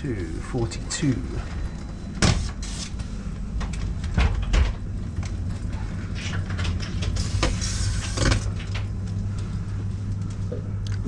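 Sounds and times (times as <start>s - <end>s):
low hum in train carriage: 0.0s - 11.0s.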